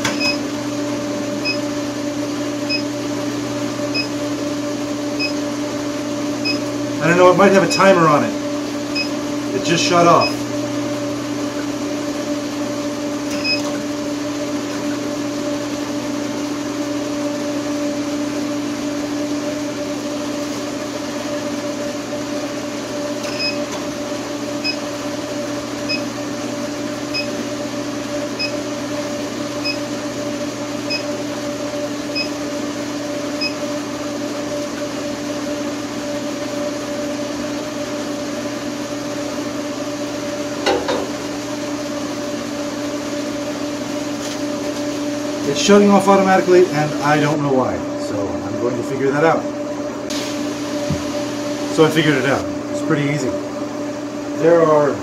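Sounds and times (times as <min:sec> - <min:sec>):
pump and cooling fan hum: 0:00.0 - 0:55.0.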